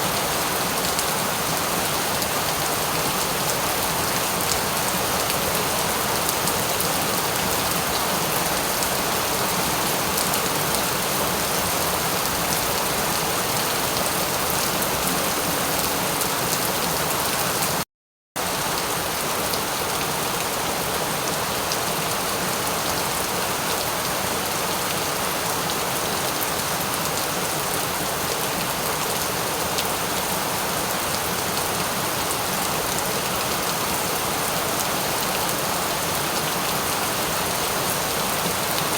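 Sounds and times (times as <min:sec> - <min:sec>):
steady rain falling: 0:00.0 - 0:17.8, 0:18.4 - 0:38.9.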